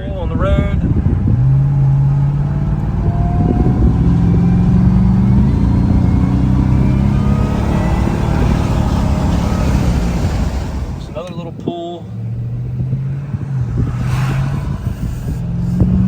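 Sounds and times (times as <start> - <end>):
car engine accelerating: 0.1 - 16.0
supercharger whine: 0.4 - 16.0.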